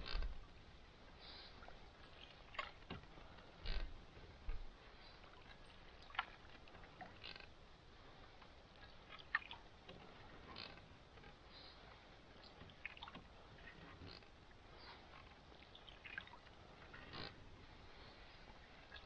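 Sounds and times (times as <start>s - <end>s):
paddle dipping and swishing water: 0.0s - 19.0s.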